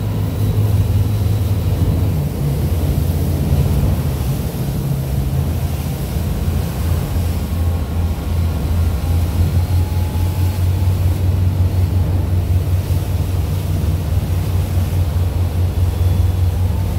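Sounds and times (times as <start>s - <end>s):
boat engine droning: 0.0s - 16.9s
wake and waves rushing: 0.0s - 16.9s.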